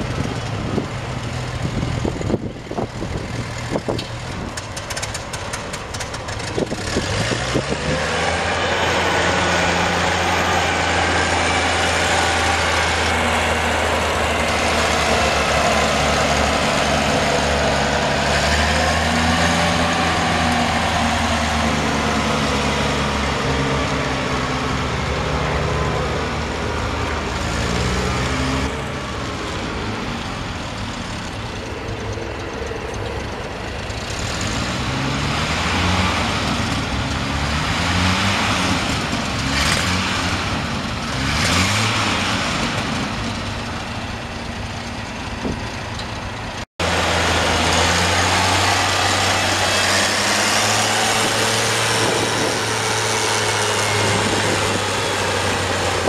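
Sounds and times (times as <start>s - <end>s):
roller engine running: 0.0s - 56.0s.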